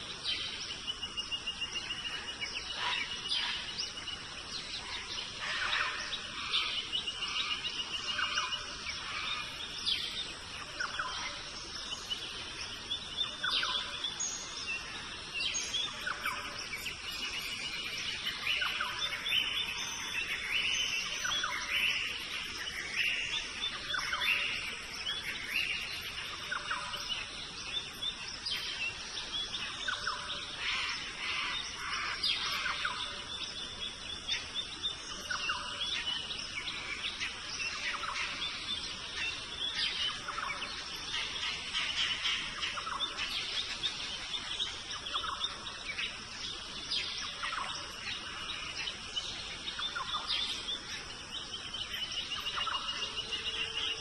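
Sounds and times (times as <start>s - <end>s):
birds chirping and calling: 0.0s - 54.0s
insects hissing: 0.0s - 54.0s.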